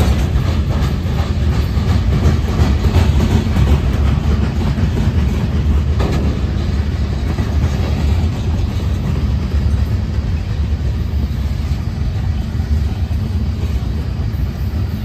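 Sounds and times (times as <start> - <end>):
train wheel clacks: 0.0 - 15.0
train wheels rumbling on rail: 0.0 - 15.0.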